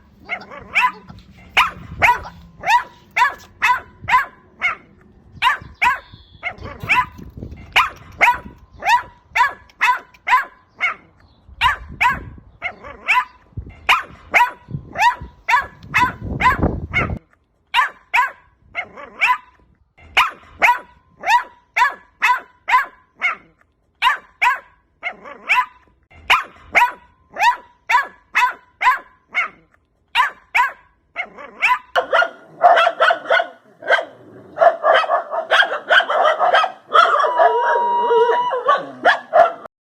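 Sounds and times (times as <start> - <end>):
dog barking: 0.0 - 39.7.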